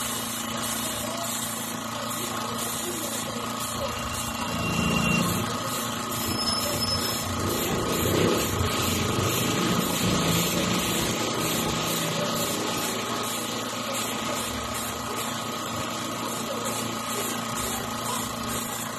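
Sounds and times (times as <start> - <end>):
air compressor running: 0.0 - 18.9
airbrush air spraying hiss: 0.0 - 18.9.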